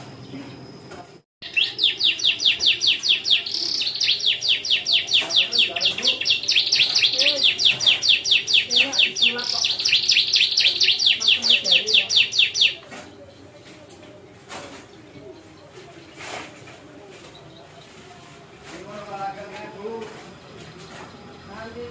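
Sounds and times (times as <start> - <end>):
canary singing: 1.4 - 21.9.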